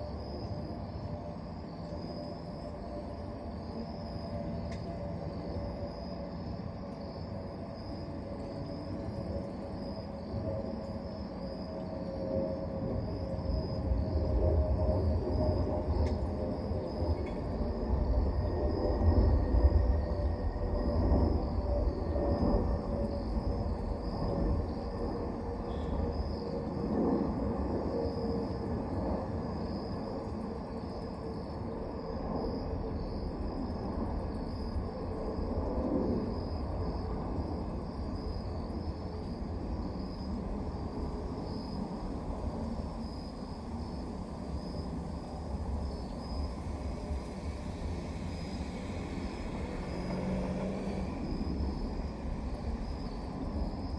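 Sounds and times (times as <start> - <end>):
faint hum: 0.0 - 53.9
insects chirping: 0.0 - 53.9.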